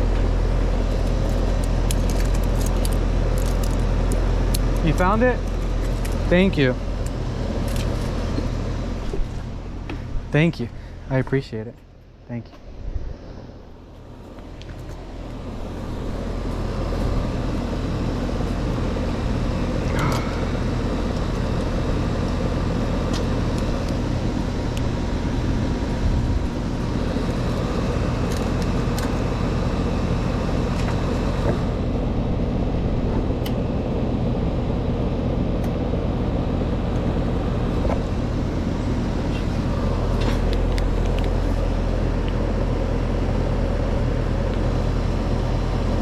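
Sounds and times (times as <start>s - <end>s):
compressor hum: 0.0s - 46.0s
condenser fan rushing: 0.0s - 46.0s.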